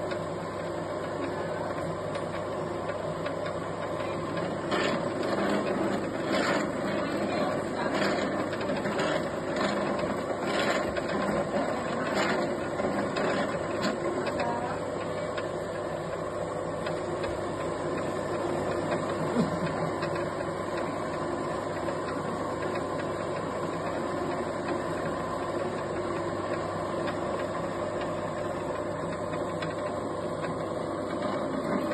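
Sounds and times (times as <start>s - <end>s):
noodle machine motor humming: 0.0s - 31.9s.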